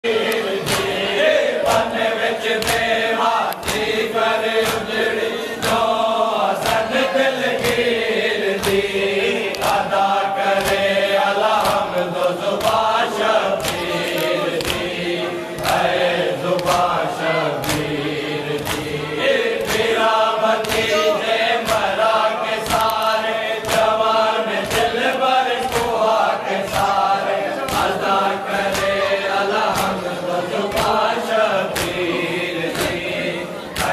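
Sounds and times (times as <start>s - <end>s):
men chanting in unison: 0.0s - 33.9s.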